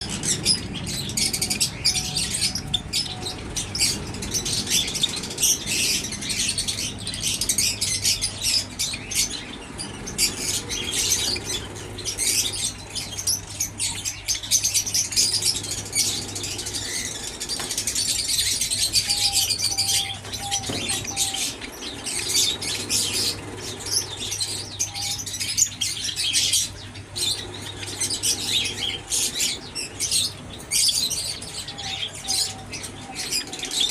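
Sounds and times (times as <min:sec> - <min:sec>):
sparrows chirping: 0:00.0 - 0:33.9
steady low hum: 0:00.0 - 0:33.9.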